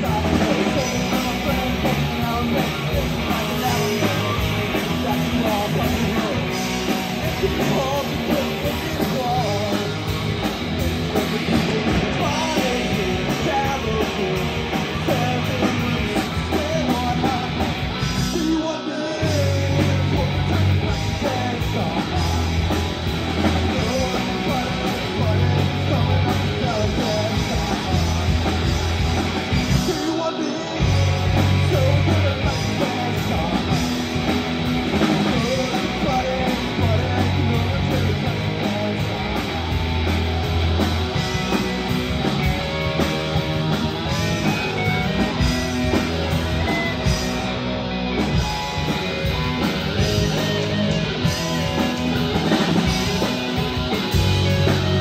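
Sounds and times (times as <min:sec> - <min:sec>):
driving bass line: 0:00.0 - 0:55.0
live rock band playing: 0:00.0 - 0:55.0.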